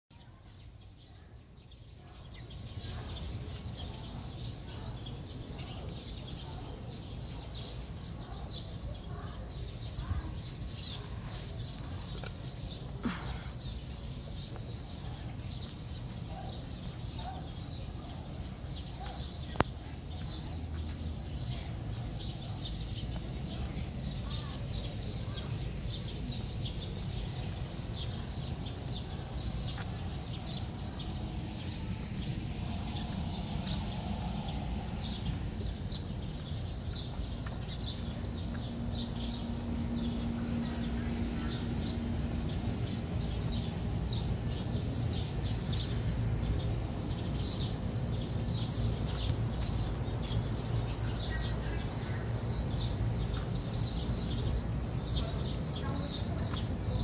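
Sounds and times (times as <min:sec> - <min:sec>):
steady low rumble: 0:09.1 - 0:55.0.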